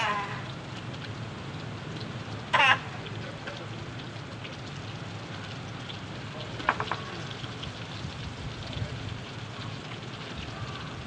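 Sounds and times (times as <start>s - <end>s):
oil sizzling in a pan: 0.0s - 11.0s
wood fire crackling: 0.0s - 11.0s.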